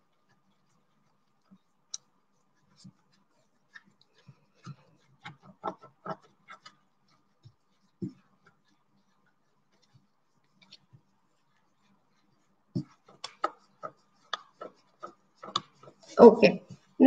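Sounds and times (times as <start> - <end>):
stick stirring thick dough: 0.0 - 17.0.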